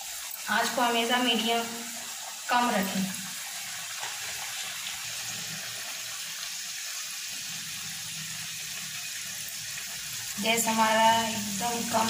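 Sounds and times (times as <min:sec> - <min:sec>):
dough sizzling in frying oil: 0:00.0 - 0:12.0.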